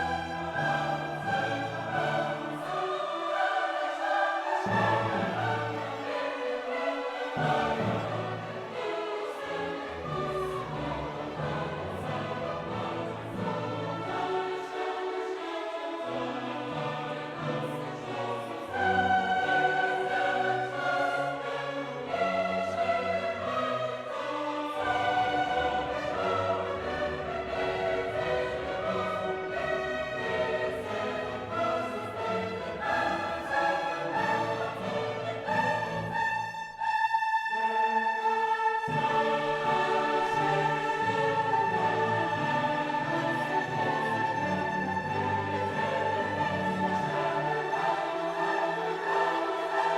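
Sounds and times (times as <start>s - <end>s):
orchestral music with operatic choir: 0.0s - 49.9s.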